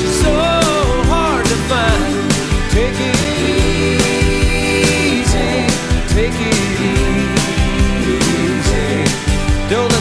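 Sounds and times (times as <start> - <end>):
rock song with singing: 0.0 - 10.0.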